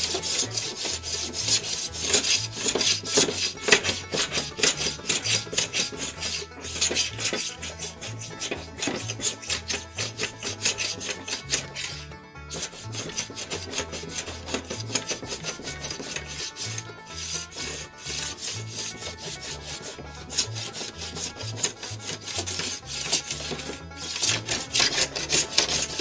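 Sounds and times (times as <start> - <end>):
hand plane scraping: 0.0 - 26.0.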